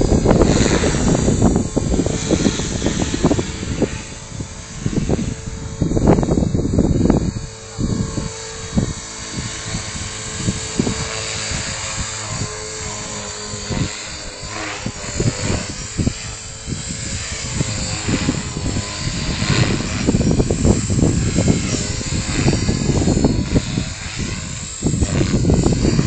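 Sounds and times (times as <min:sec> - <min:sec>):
rc helicopter rotor whine: 0:00.0 - 0:26.0
wind buffeting microphone: 0:00.0 - 0:26.0.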